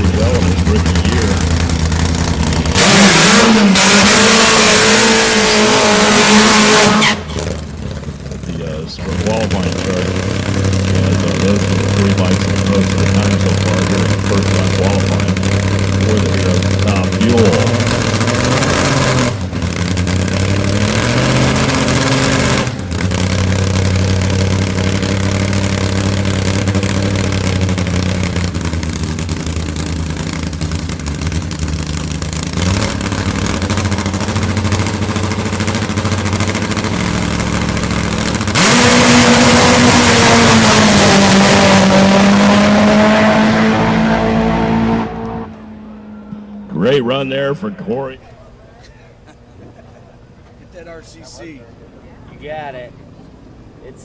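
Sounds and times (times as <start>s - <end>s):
drag motorcycle engine throbbing: 0.0s - 48.0s.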